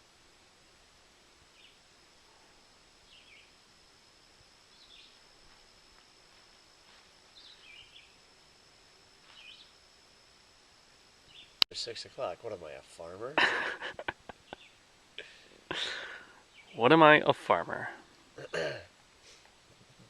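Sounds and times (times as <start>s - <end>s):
outdoor hiss: 0.0s - 20.0s
thin steady high tone: 0.1s - 18.8s
songbird chirps: 1.4s - 12.4s, 13.5s - 19.0s.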